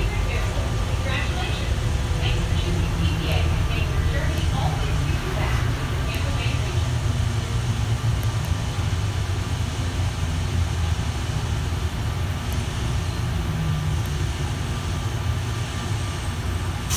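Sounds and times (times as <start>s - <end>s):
train rumbling on guideway: 0.0s - 16.9s.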